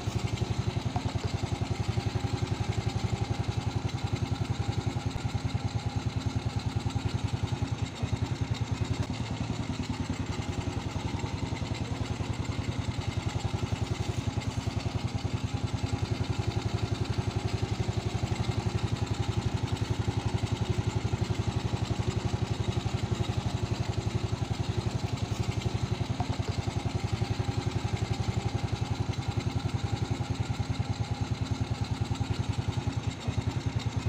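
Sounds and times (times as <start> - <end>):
moped engine idling: 0.0 - 34.0.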